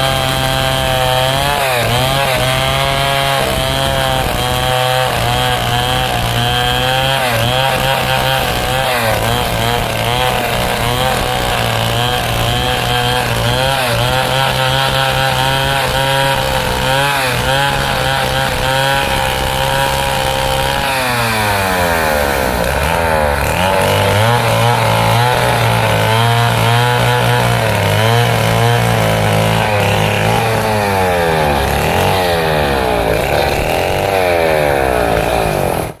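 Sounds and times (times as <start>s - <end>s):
chainsaw cutting a log: 0.0s - 36.0s.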